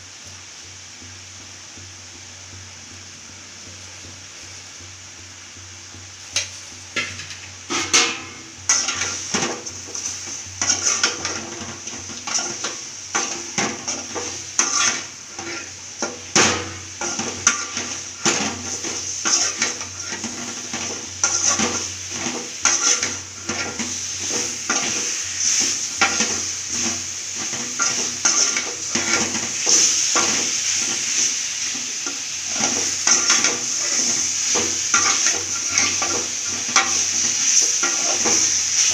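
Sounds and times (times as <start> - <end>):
food sizzling: 0.0 - 38.9
utensil scraping cooking pan: 6.2 - 38.9.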